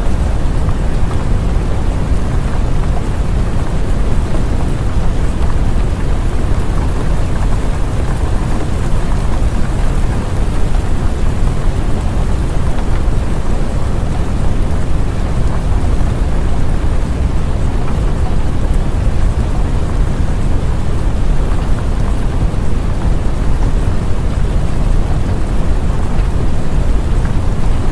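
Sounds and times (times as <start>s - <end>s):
deep constant rumble: 0.0s - 27.9s
steady rain: 0.0s - 27.9s.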